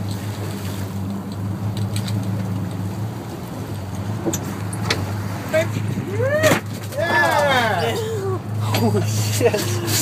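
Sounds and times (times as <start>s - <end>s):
boat engine humming: 0.0s - 10.0s
sea water rushing: 0.0s - 10.0s.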